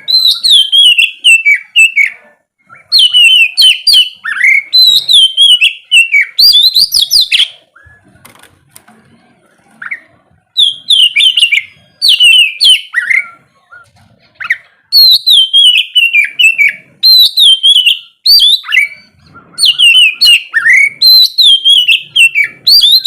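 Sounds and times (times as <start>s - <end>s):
bird singing whistled notes: 0.0s - 8.1s, 10.6s - 23.0s.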